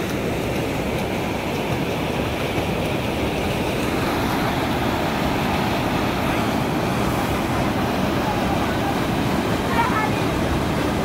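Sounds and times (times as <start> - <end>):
water gushing through sluice gate: 0.0 - 11.0.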